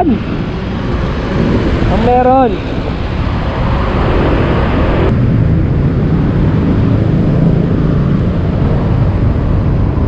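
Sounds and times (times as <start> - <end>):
scooter engine drone: 0.0 - 10.0
wind rumble on microphone: 0.0 - 10.0.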